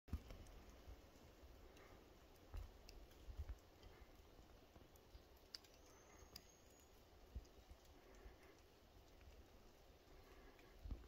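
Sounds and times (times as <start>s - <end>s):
faint clicks: 0.1s - 11.0s.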